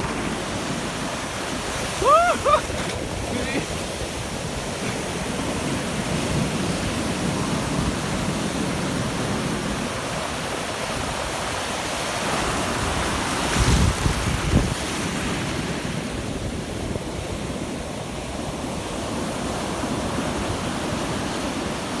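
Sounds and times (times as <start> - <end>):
ocean surf breaking on beach: 0.0 - 22.0
wind on microphone: 0.0 - 22.0.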